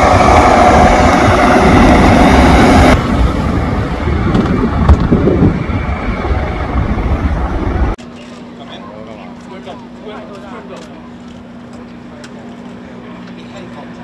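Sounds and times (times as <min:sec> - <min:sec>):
helicopter turbine and rotor noise: 0:00.0 - 0:14.0.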